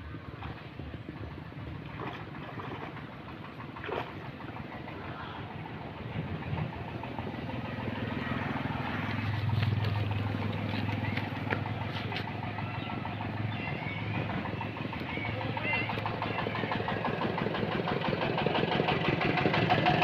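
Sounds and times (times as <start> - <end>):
engine running: 0.0 - 20.0
noisy background: 0.0 - 20.0.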